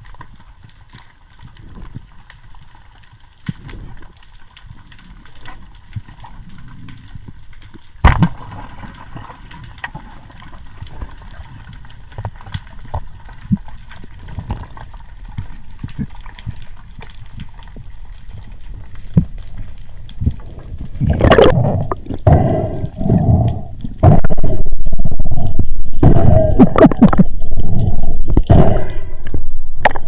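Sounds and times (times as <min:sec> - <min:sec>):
small clicks underwater: 0:00.0 - 0:26.0, 0:26.7 - 0:30.0
underwater rush of water: 0:00.0 - 0:30.0.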